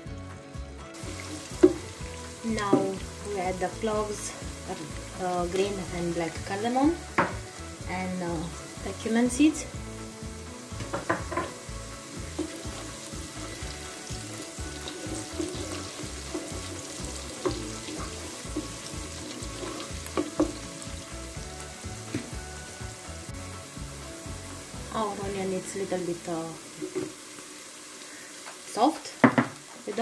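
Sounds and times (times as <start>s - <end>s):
onions sizzling in hot oil: 0.0s - 30.0s.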